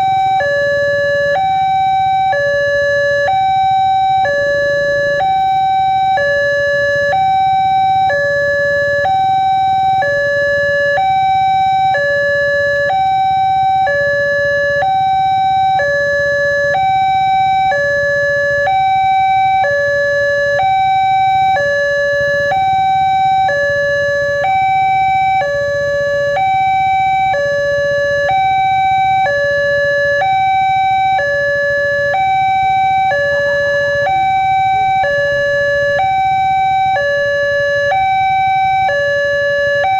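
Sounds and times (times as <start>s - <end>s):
two-tone level crossing siren: 0.0s - 39.9s.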